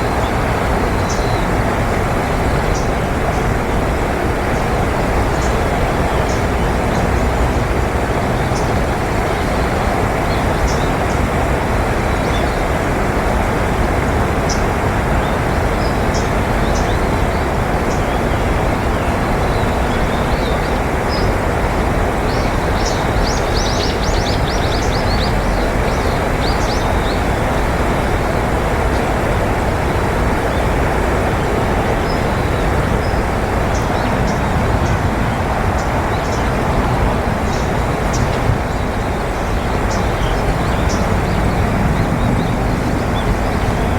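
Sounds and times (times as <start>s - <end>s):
road traffic roar: 0.0s - 43.9s
small birds chirping: 0.0s - 43.9s.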